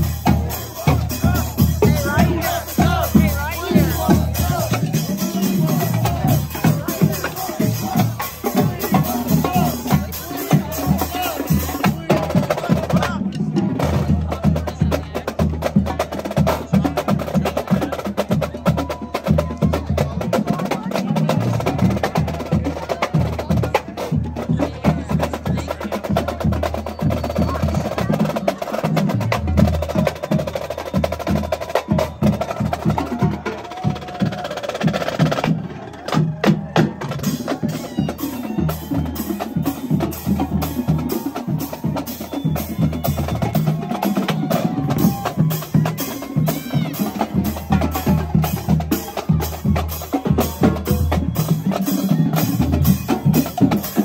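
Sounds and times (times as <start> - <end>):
snare drums: 0.0 - 54.0.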